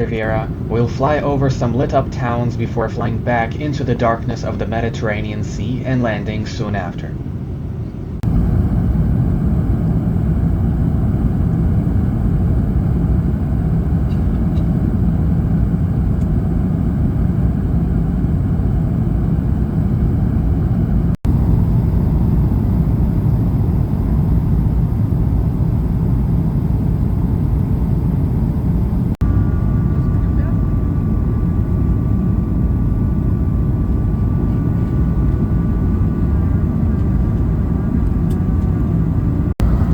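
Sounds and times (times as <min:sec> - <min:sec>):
aircraft cabin roar: 0:00.0 - 0:39.9.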